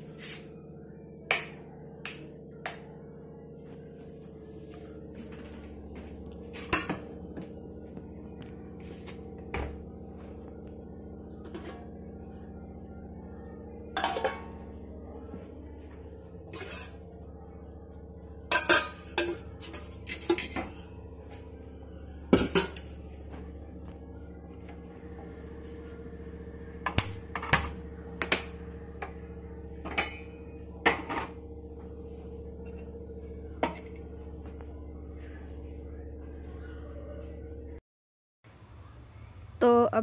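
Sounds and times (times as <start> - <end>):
steady low hum: 0.0 - 37.8.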